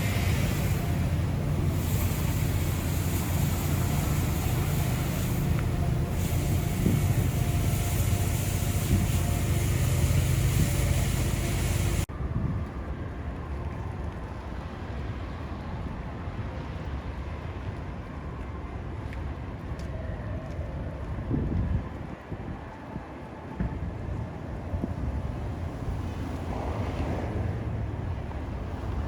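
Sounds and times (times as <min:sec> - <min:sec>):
blizzard wind buffeting microphone: 0:00.0 - 0:29.0
dull steady background noise: 0:00.0 - 0:29.0.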